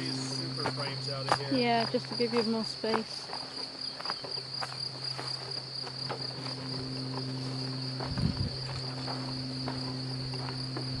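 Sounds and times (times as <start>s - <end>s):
high insect trill: 0.0s - 11.0s
honey bees buzzing: 0.0s - 11.0s.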